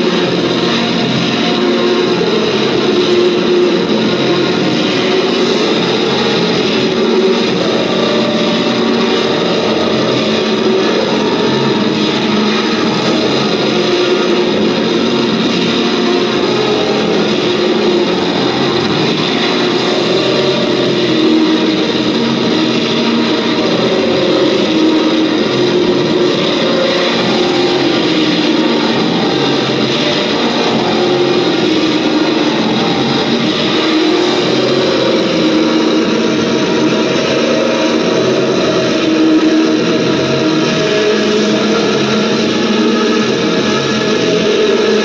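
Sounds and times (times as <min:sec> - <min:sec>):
distorted noise music drone: 0:00.0 - 0:45.0.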